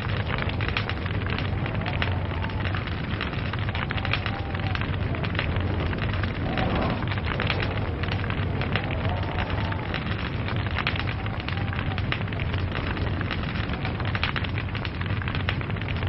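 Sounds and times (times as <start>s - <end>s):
log fire crackling and popping: 0.0s - 16.0s
low rumble of flames: 0.0s - 16.0s.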